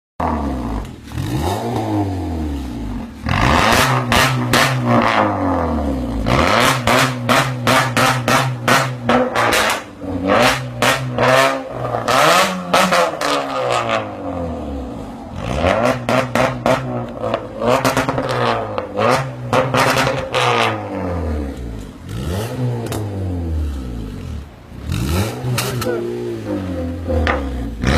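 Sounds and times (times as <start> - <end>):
exhaust cracks: 0.2 - 14.5, 15.3 - 27.9
car engine revving: 0.2 - 27.9.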